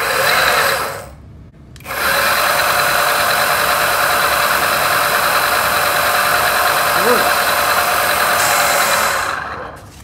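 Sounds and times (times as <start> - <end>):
electric motors whirring: 0.0 - 1.2, 1.8 - 10.0.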